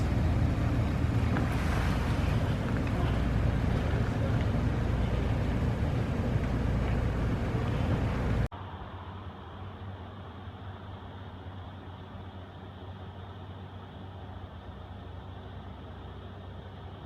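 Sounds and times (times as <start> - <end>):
low hum: 0.0 - 17.0
vehicle rumble with hiss: 0.0 - 17.0.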